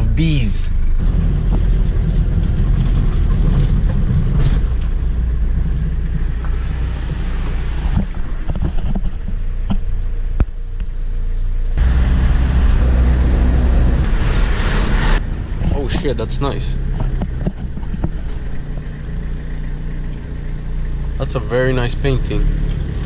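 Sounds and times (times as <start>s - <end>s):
car road and engine noise: 0.0s - 23.0s.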